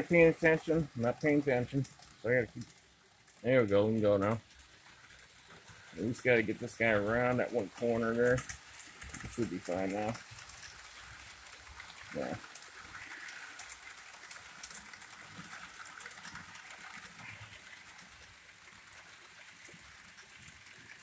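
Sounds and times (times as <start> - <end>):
model trains whirring: 0.0 - 21.0.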